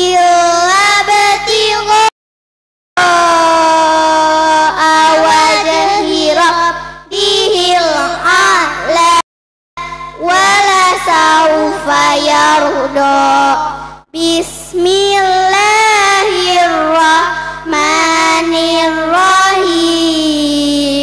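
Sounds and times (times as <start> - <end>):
steady low hum: 0.0 - 2.1, 3.0 - 9.2, 9.8 - 21.0
person chanting melodically: 3.0 - 9.2, 9.8 - 21.0.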